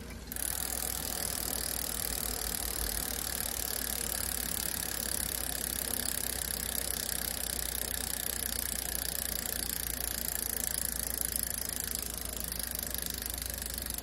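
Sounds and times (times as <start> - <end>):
bicycle freehub clicking: 0.0 - 14.0.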